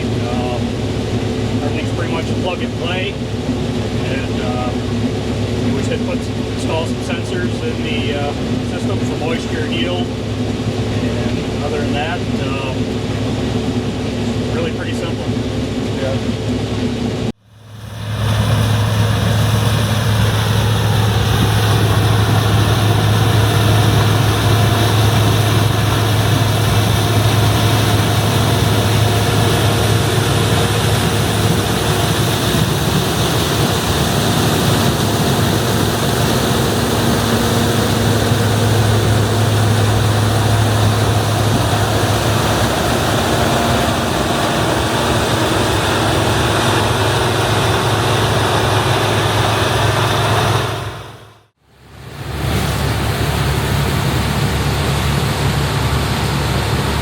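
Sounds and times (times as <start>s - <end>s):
combine engine drone: 0.0s - 57.0s.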